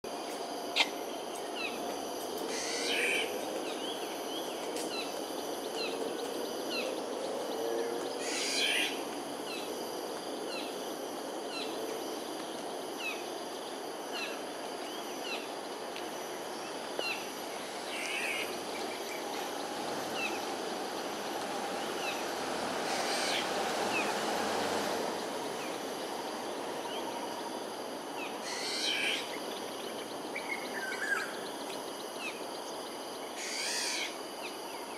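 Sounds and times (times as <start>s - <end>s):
insect drone: 0.1s - 34.9s.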